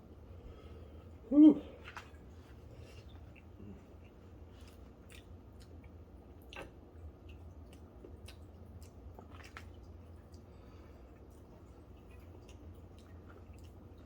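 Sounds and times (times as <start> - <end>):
low steady hum: 0.0 - 14.0
person chewing food: 0.3 - 14.0.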